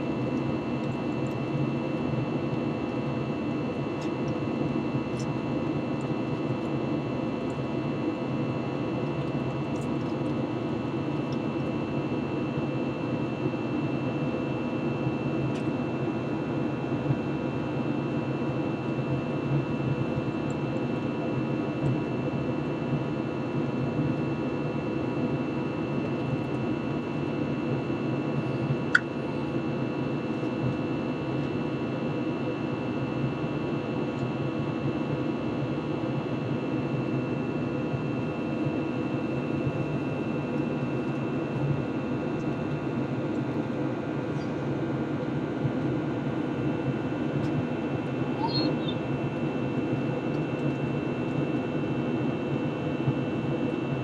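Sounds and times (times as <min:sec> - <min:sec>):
airplane cabin airflow and engine noise: 0:00.0 - 0:54.0.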